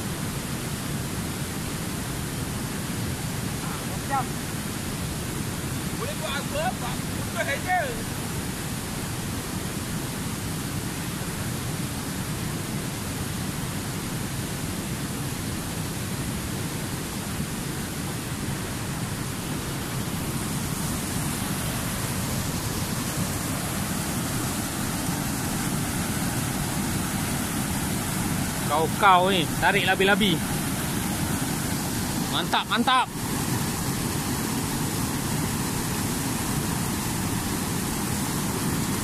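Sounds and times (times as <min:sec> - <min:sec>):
river rapids rushing over rocks: 0:00.0 - 0:39.0.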